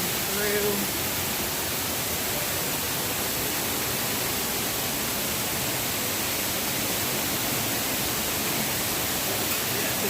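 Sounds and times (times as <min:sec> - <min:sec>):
waterfall splashing: 0:00.0 - 0:10.0.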